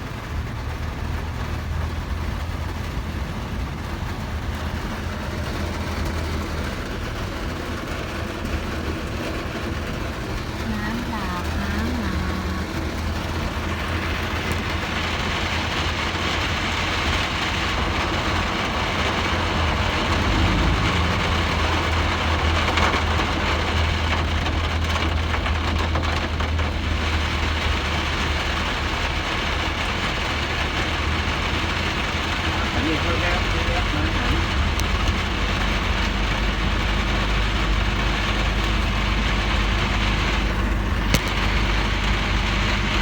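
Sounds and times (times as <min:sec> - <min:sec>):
low engine hum: 0:00.0 - 0:43.0
rain falling: 0:00.0 - 0:43.0.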